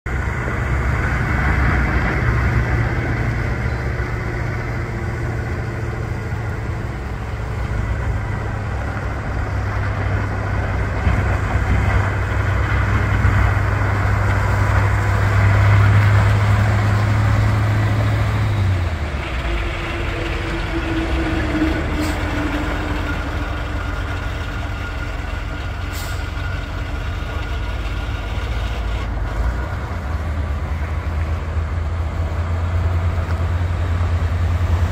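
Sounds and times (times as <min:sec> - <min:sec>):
truck engine running: 0:00.1 - 0:34.9.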